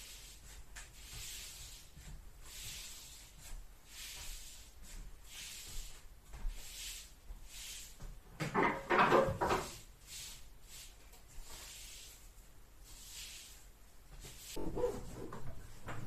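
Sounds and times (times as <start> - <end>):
straw broom sweeping a floor: 0.0 - 15.4.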